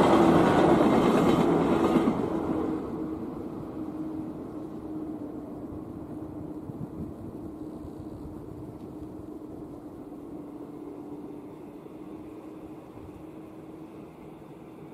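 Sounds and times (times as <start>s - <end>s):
electric train rumbling: 0.0s - 14.9s.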